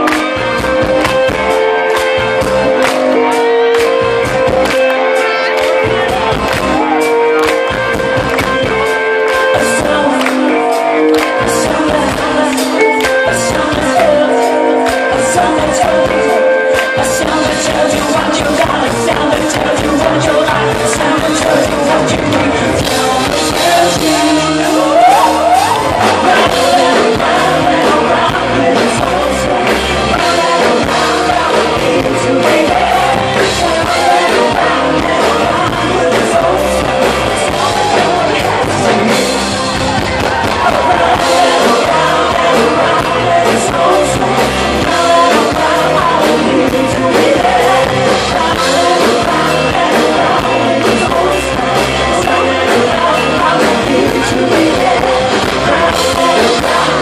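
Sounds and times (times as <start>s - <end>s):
live pop-rock band: 0.0s - 57.0s
woman singing: 9.4s - 57.0s.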